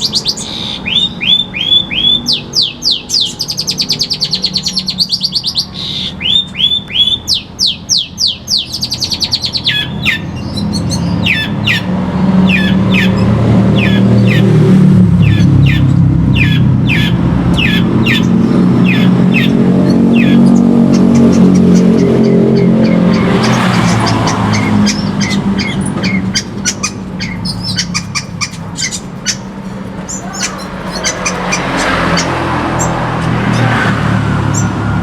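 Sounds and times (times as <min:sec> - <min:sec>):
bird chipping and chattering: 0:00.0 - 0:33.8.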